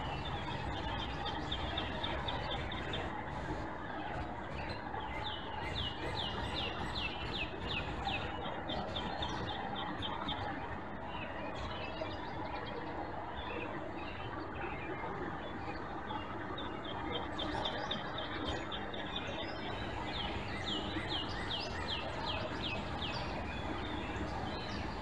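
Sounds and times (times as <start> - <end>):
songbird singing: 0.0 - 3.5, 4.5 - 25.0.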